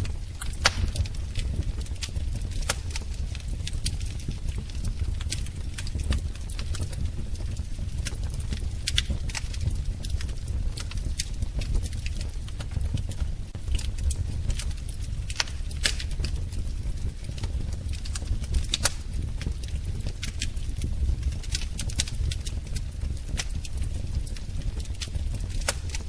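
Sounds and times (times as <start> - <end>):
fire crackling and popping: 0.0 - 26.0
fire rumbling in fireplace: 0.0 - 26.0.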